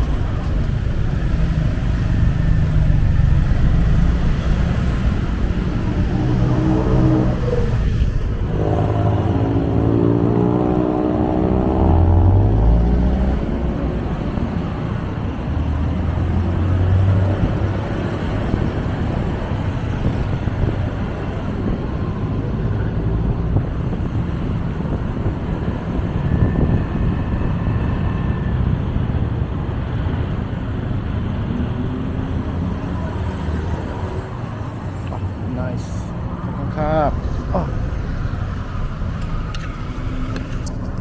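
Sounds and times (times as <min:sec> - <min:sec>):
city traffic: 0:00.0 - 0:41.0.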